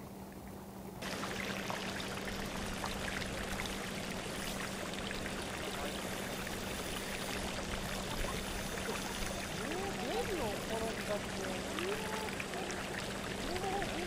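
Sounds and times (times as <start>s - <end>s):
low steady hum: 0.0s - 14.0s
running water rushing: 1.0s - 14.0s.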